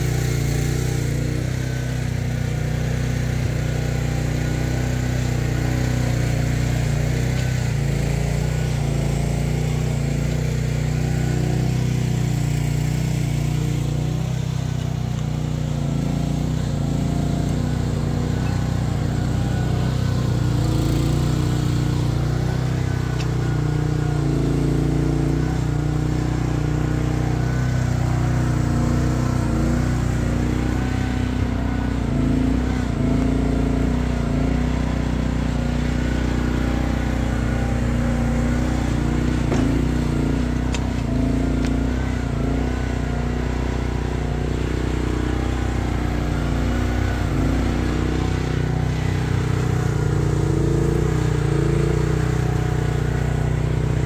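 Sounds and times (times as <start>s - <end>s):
mini excavator engine running: 0.0s - 54.0s.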